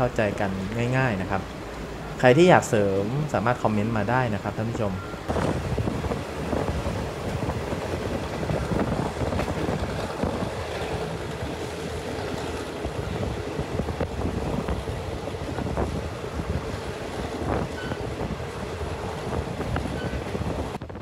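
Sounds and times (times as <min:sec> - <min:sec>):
moving train rumble: 0:00.0 - 0:21.0
wind buffeting microphone: 0:00.0 - 0:21.0.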